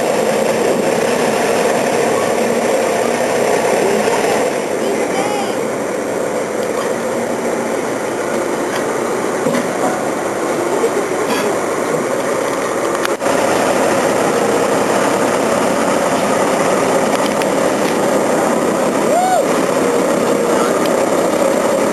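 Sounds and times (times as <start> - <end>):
heavy vehicle engine rumbling: 0.0 - 21.9.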